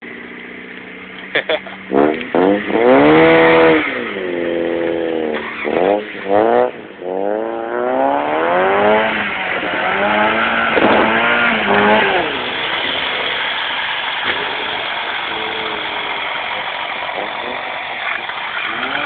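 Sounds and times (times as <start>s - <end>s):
engine throttle blips: 0.0s - 19.0s
car engine revving hard: 1.3s - 19.0s.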